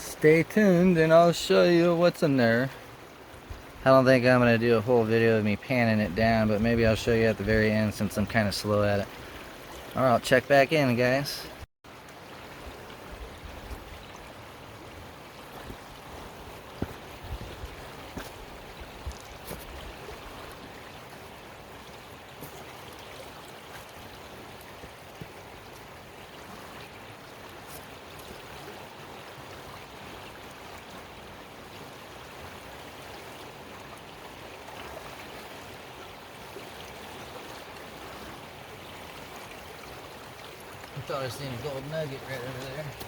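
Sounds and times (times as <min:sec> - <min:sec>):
creek water rushing: 0:00.0 - 0:43.0.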